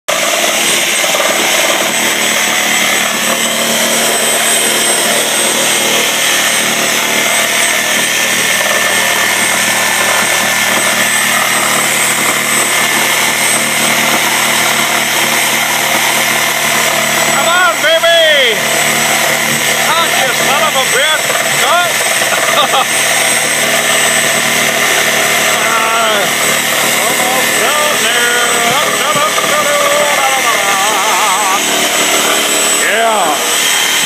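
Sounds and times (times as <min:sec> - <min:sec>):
reciprocating saw cutting: 0:00.1 - 0:34.0.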